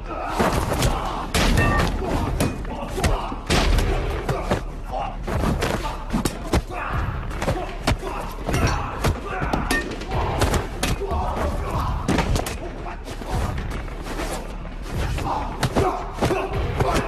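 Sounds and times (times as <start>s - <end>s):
film music score: 0.0s - 17.0s
punches and body impacts: 0.3s - 12.8s, 14.8s - 17.0s.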